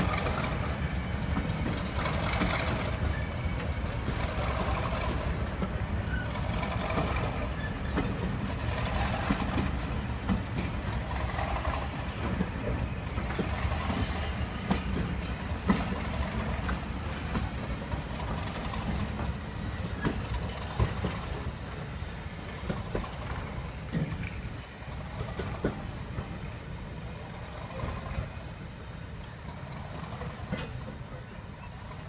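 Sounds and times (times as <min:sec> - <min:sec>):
diesel locomotive engine rumble: 0:00.0 - 0:32.0
train wheels clicking over rail joints: 0:00.0 - 0:32.0.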